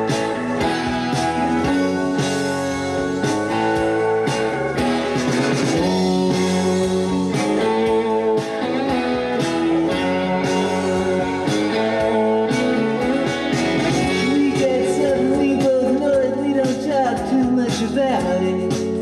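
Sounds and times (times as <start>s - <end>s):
rock song with electric guitar: 0.0s - 19.0s.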